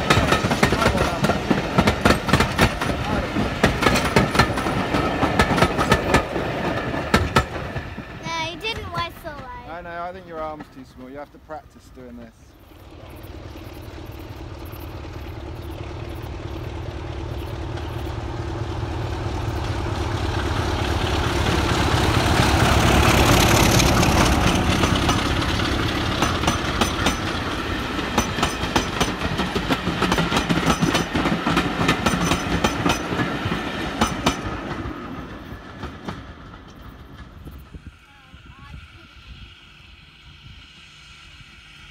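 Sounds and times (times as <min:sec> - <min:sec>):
steam train passing: 0:00.0 - 0:41.9.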